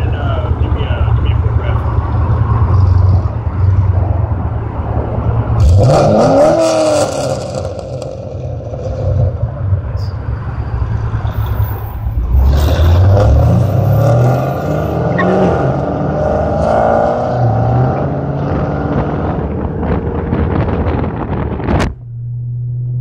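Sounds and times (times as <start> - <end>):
car exhaust rumbling and revving: 0.0 - 23.0.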